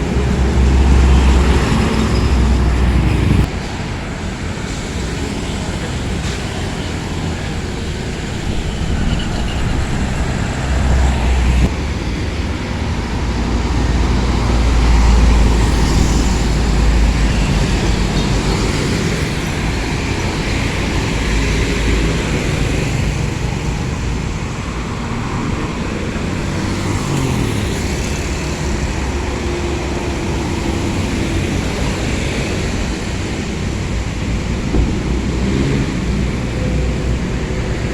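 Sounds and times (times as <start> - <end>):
truck engine and road noise: 0.0 - 37.9.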